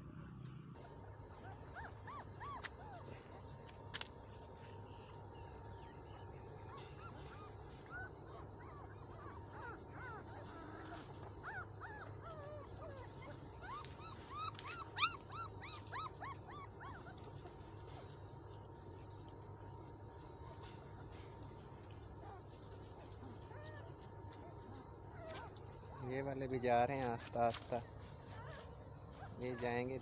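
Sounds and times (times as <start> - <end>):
puppies squeaking and whimpering: 0.8 - 3.8, 5.7 - 18.9, 19.6 - 30.0.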